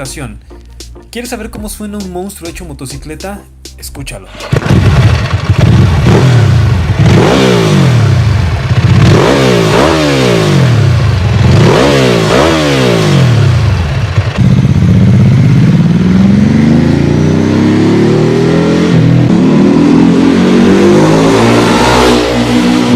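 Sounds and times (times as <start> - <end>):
motorcycle engine revving: 4.3 - 22.9.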